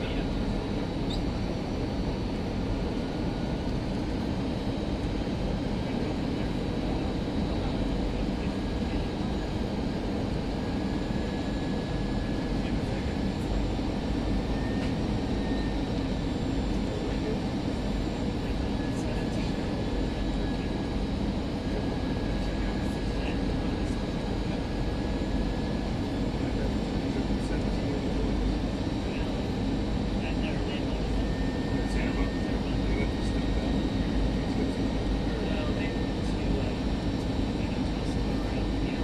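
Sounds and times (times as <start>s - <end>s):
airliner cabin rumble: 0.0s - 39.0s
faint high whine: 0.0s - 39.0s.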